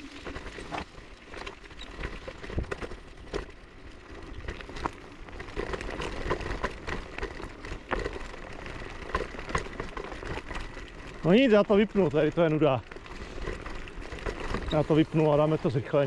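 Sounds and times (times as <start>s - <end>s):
scooter rattling over rough track: 0.0s - 16.0s.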